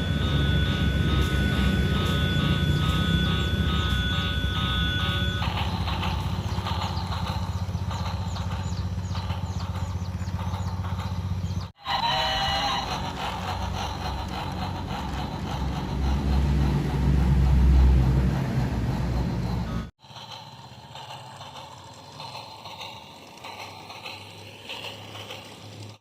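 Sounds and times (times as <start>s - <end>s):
model train motor hum: 0.0s - 26.0s.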